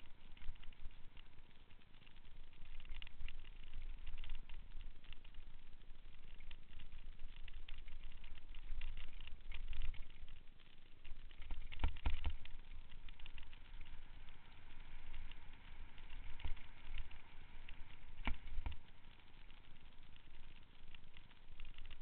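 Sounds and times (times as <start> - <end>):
bicycle tyres rumbling over dirt: 0.0 - 22.0.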